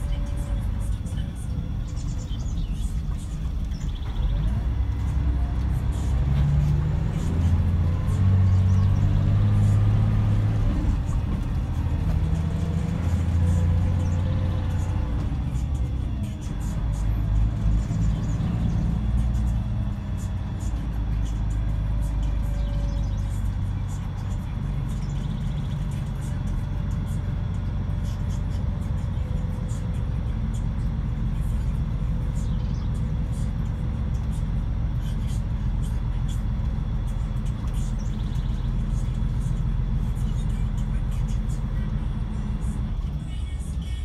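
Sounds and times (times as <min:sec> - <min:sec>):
bus engine droning: 0:00.0 - 0:44.0
road noise: 0:00.0 - 0:44.0.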